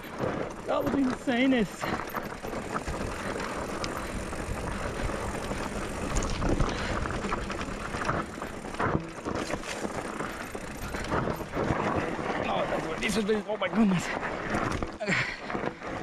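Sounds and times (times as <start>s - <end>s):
bike clattering over rocks: 0.0s - 16.0s
bike rattling: 0.0s - 16.0s
tyres rumbling on gravel: 0.0s - 16.0s.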